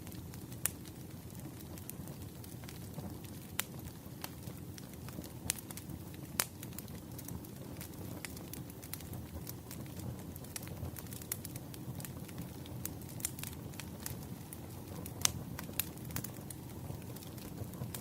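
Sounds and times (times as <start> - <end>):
low rumble of flames: 0.0 - 18.0
sharp pops of fire: 0.0 - 18.0
wood fire crackling: 0.0 - 18.0.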